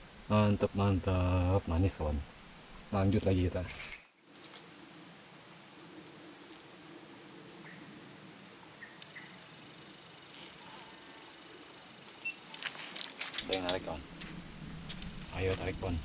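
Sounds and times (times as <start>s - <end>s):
insect chorus trilling: 0.0s - 16.0s.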